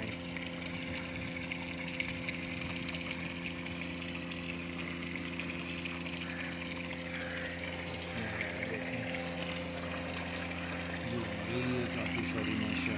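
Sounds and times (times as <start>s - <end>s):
motor hum: 0.0s - 12.9s
water bubbling and splashing: 0.0s - 12.9s.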